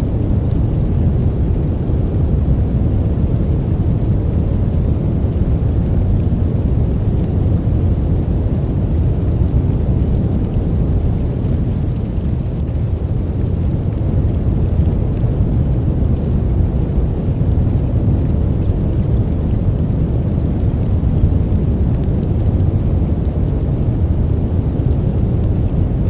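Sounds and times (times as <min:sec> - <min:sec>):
deep steady noise: 0:00.0 - 0:26.0.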